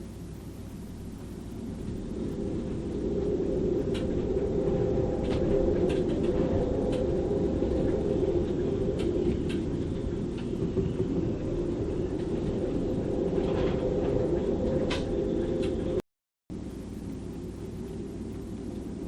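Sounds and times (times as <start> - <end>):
storm wind howling through rigging: 0.0 - 16.0, 16.6 - 19.0
deep rumble: 0.0 - 19.0.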